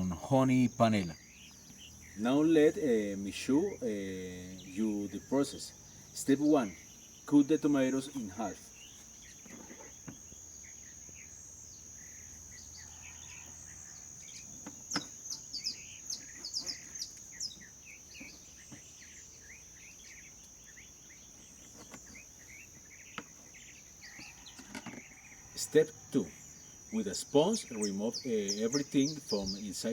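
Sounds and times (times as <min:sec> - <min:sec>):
birds chirping: 0:00.0 - 0:29.9
insect buzz: 0:00.0 - 0:29.9.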